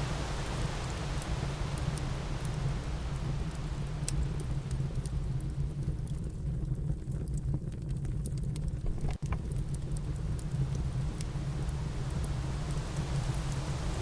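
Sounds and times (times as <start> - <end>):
fire low rumble: 0.0 - 14.0
fire crackling and popping: 0.3 - 14.0.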